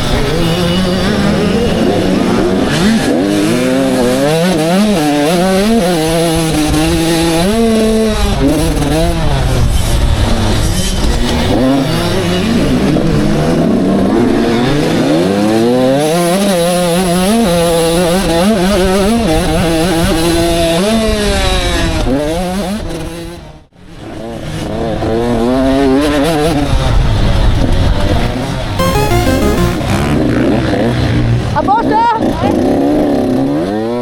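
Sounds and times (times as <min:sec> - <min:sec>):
motocross bikes racing: 0:00.0 - 0:27.3.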